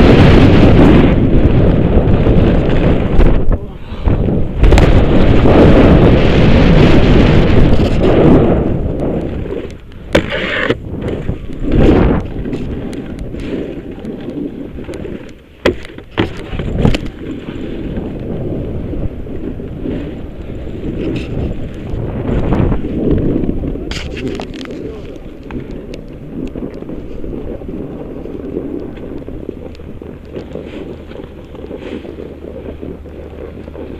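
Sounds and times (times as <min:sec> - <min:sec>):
snowboard sliding over snow: 0:00.0 - 0:33.9
wind rushing over microphone: 0:00.0 - 0:33.9
board edges scraping snow: 0:04.6 - 0:33.9.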